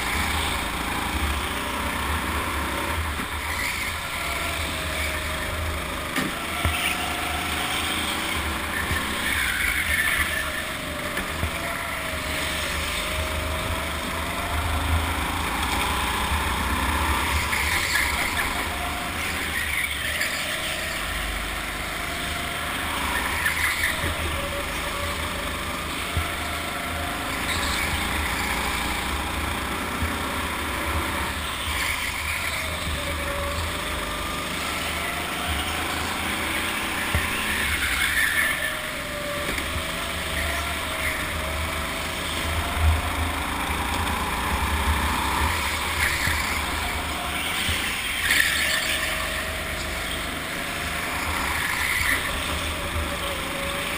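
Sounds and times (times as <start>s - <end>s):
go-kart motor revving: 0.0s - 53.9s.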